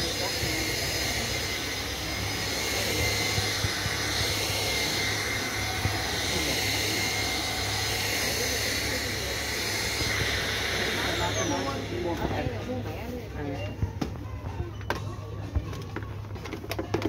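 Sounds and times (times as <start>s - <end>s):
vacuum cleaner running: 0.0s - 14.2s.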